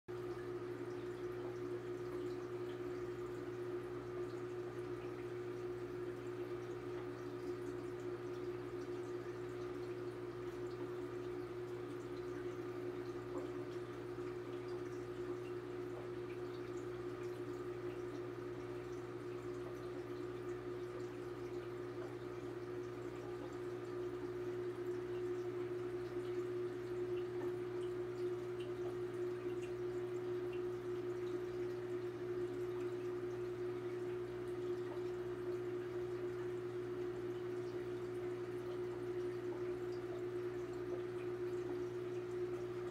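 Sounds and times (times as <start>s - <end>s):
aquarium pump hum: 0.1s - 42.9s
water trickling and dripping: 0.1s - 42.9s.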